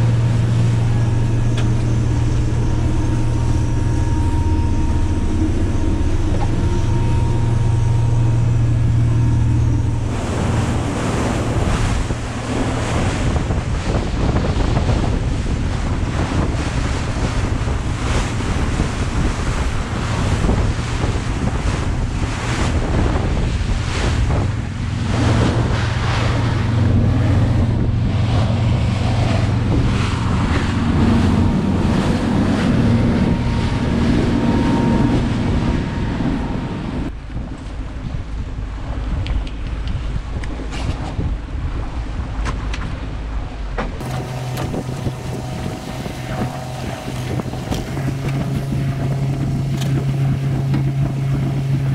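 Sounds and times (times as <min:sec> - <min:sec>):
motorboat engine drone: 0:00.0 - 0:51.9
water rushing along hull: 0:00.0 - 0:51.9
wind buffeting microphone: 0:00.0 - 0:51.9.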